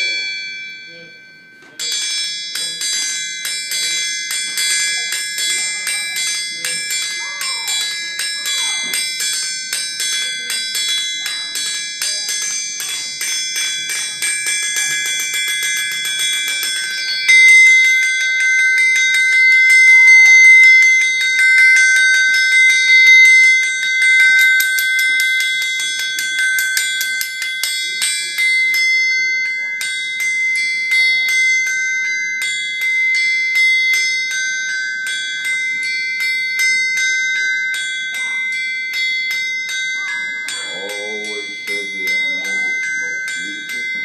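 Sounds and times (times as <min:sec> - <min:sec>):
sustained high ringing: 0:00.0 - 0:44.0.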